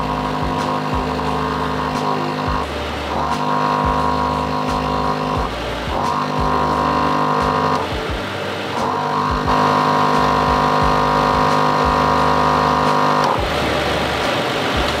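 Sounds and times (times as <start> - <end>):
air compressor running: 0.0 - 15.0
sustained music-like tones: 0.0 - 15.0.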